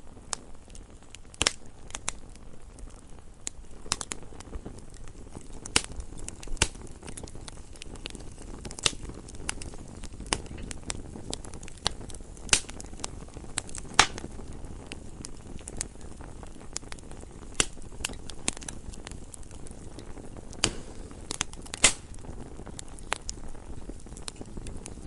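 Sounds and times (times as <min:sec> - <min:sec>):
campfire low rush: 0:00.0 - 0:25.0
campfire pops and snaps: 0:00.0 - 0:25.0.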